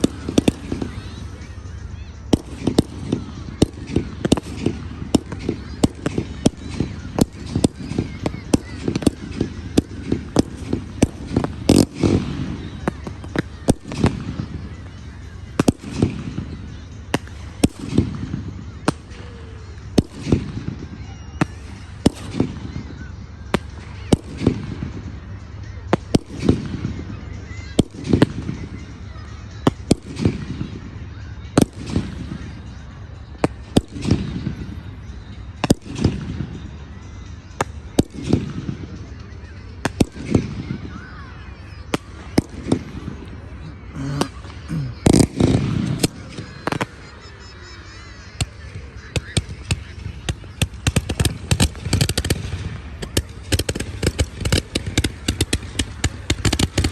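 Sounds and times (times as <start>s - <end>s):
fireworks popping and cracking: 0.0s - 56.9s.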